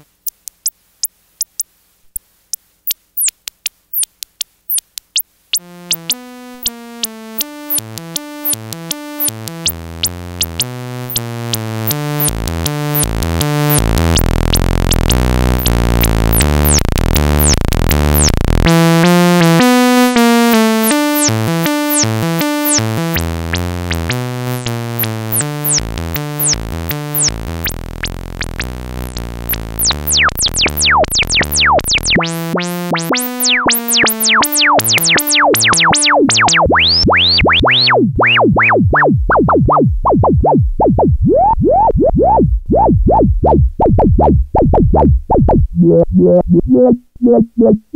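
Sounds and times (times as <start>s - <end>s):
sequenced synth pattern: 4.7s - 47.9s.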